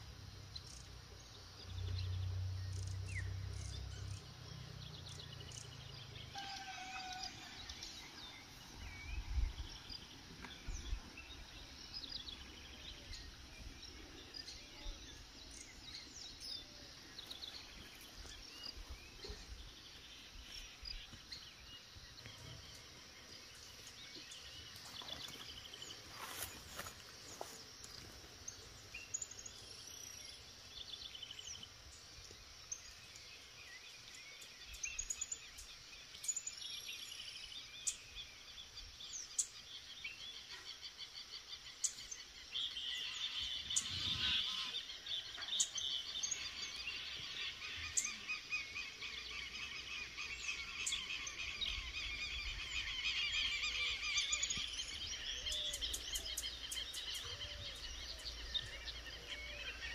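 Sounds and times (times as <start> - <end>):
background hiss: 0.0 - 59.9
birds chirping and singing: 0.5 - 59.9.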